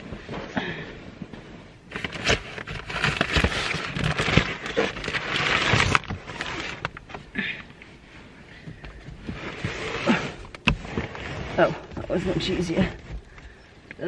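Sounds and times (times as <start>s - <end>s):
sleeping bag rustling: 0.0s - 13.8s.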